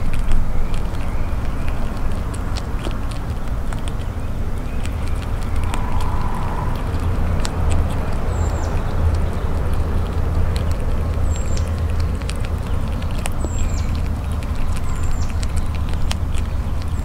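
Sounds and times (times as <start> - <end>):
squirrel chewing clicks: 0.0 - 17.0
steady low rumble: 0.0 - 17.0.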